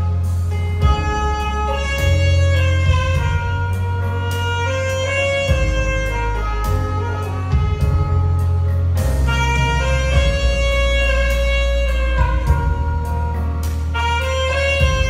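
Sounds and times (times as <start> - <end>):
deep bass line: 0.0 - 15.0
saxophone melody: 0.0 - 15.0.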